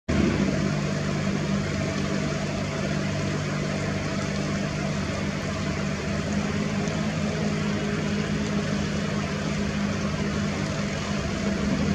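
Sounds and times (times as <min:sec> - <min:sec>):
low hum: 0:00.1 - 0:11.9
stream water rushing: 0:00.1 - 0:11.9.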